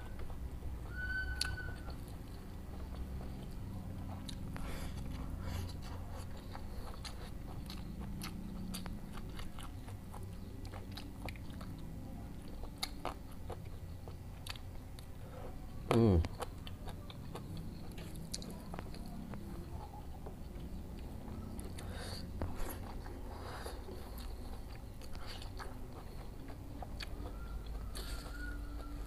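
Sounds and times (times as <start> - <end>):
crunchy chewing: 0.0 - 29.0.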